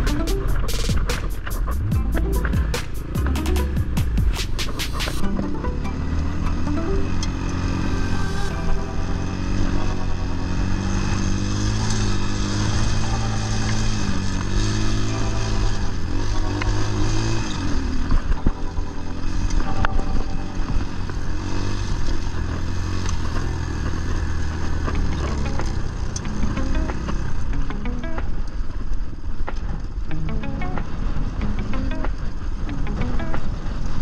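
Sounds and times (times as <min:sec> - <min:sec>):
dirt bike engine revving: 0:00.0 - 0:28.4.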